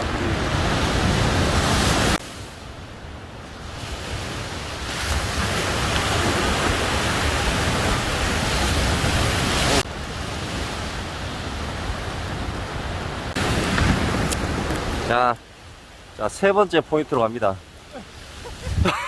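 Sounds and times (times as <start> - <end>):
wind buffeting microphone: 0.0 - 16.1, 17.6 - 19.0
sea waves washing on shore: 0.0 - 19.0.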